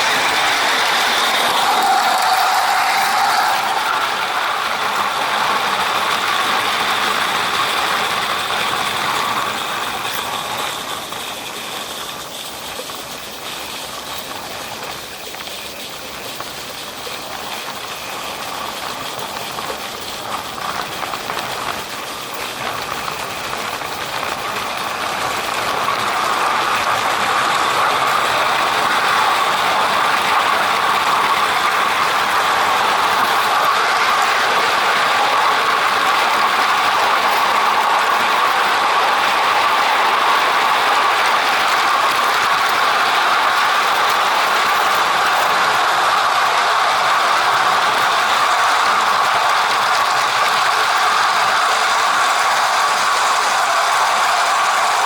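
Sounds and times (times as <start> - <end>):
model steam locomotive running: 0.0 - 55.0.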